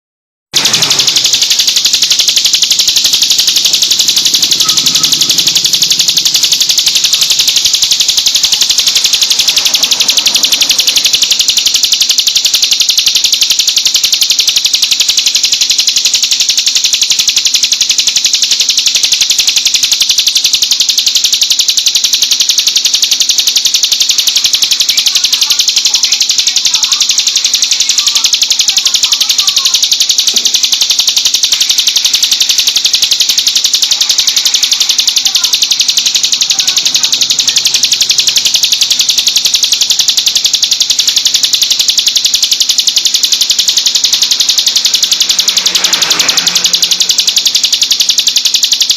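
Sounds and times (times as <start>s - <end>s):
bird high rapid trill: 0.5s - 48.9s.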